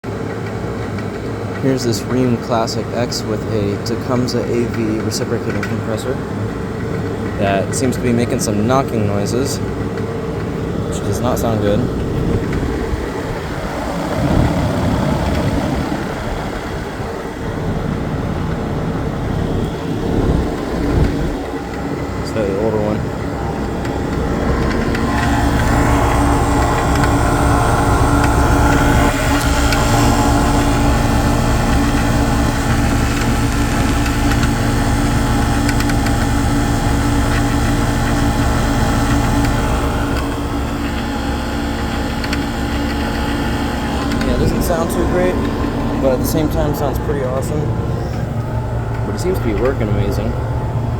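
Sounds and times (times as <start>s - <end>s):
air conditioner low hum: 0.1s - 50.9s
compressor knocking: 0.1s - 50.9s.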